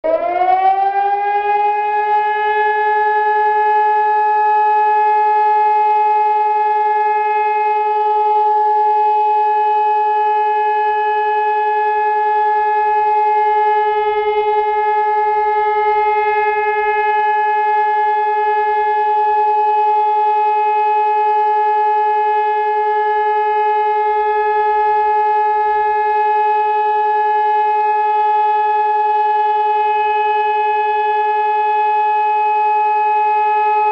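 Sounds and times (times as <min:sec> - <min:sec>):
electronic siren steady tone: 0:00.0 - 0:33.9.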